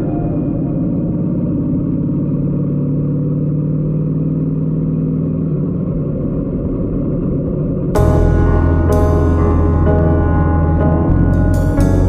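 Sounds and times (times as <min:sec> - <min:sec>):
muffled motorcycle engine: 0:00.0 - 0:12.0.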